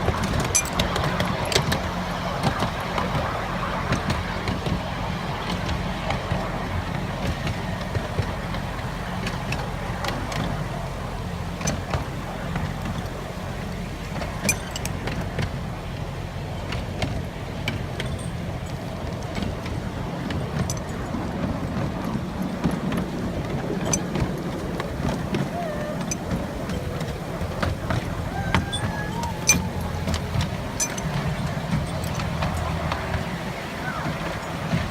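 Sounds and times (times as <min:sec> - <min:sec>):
miniature train rumbling on track: 0:00.0 - 0:34.9.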